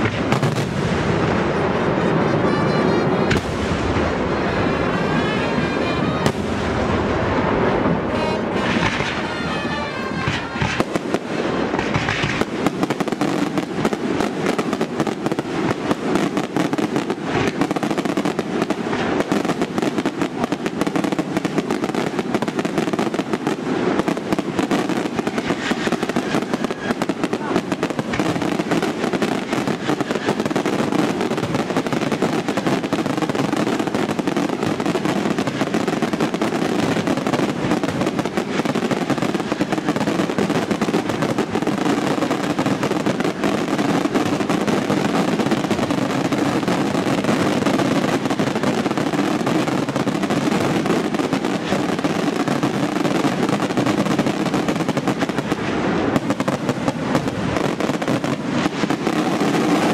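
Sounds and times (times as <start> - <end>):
fireworks exploding and crackling: 0.0 - 59.9.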